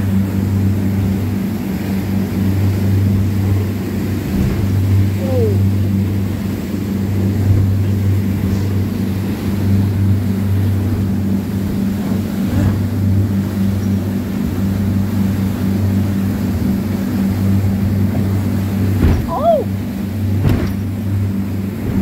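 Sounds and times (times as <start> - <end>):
boat engine low hum: 0.0 - 22.0.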